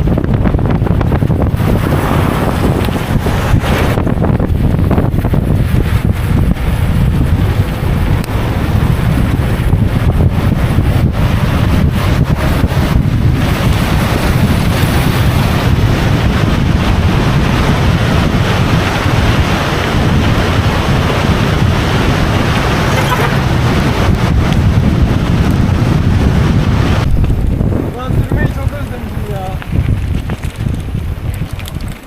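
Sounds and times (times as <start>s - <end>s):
engine and road rumble: 0.0s - 32.0s
wind buffeting microphone: 0.0s - 32.0s.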